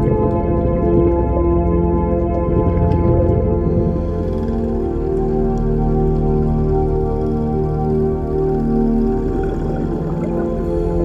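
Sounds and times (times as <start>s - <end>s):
low steady drone: 0.0s - 11.0s
sustained music chords: 0.0s - 11.0s.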